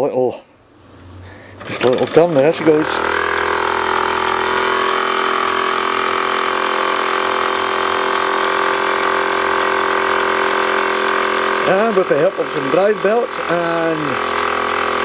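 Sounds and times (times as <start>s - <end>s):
toy steam engine running: 1.6s - 15.0s.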